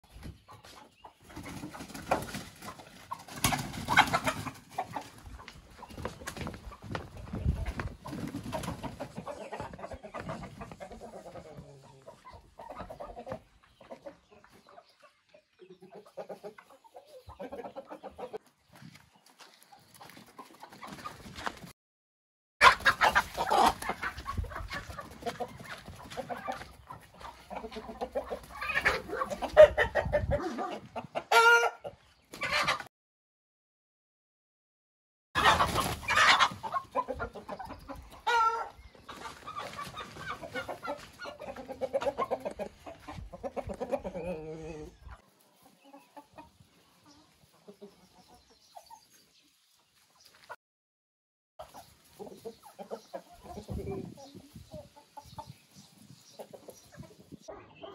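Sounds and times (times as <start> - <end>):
hens clucking: 0.0 - 21.7, 22.6 - 32.9, 35.4 - 50.6, 51.6 - 57.9.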